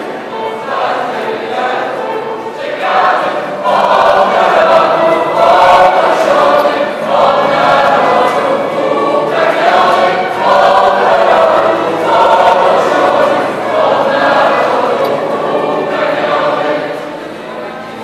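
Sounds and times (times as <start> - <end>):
mixed choir singing a carol: 0.0 - 18.0.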